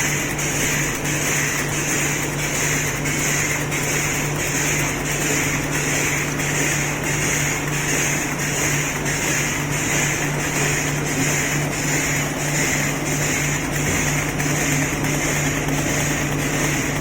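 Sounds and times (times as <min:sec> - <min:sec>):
packing machine motor hum: 0:00.0 - 0:17.0
rhythmic hissing whirring pulse: 0:00.0 - 0:17.0.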